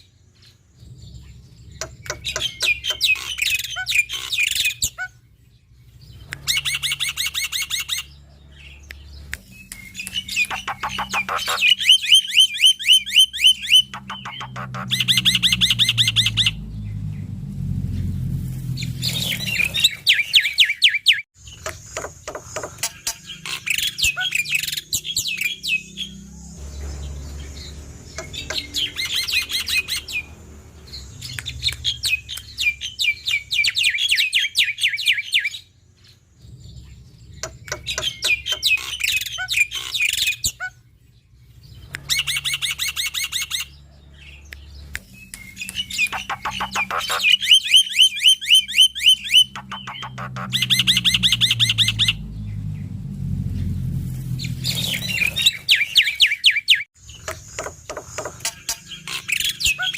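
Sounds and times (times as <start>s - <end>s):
starling singing chattering song: 0.4s - 35.7s, 36.4s - 59.9s.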